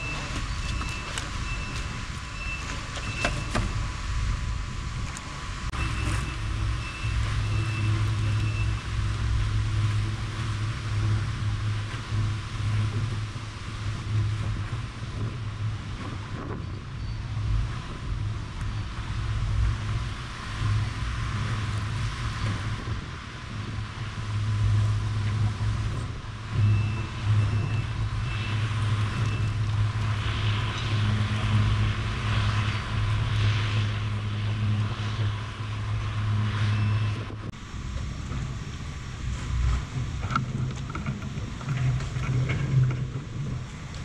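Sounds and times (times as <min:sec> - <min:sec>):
boat engine humming: 0:00.0 - 0:44.0
water: 0:00.0 - 0:44.0
wind noise: 0:00.0 - 0:44.0.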